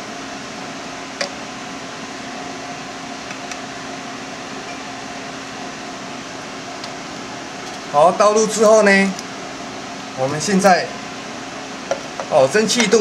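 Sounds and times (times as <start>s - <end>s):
fan-like hum: 0.0s - 13.0s.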